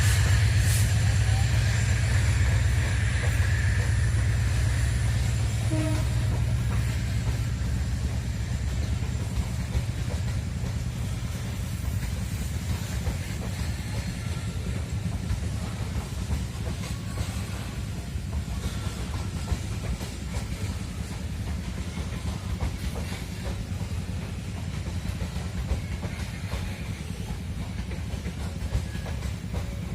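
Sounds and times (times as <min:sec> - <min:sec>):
freight train rumbling past: 0:00.0 - 0:29.9.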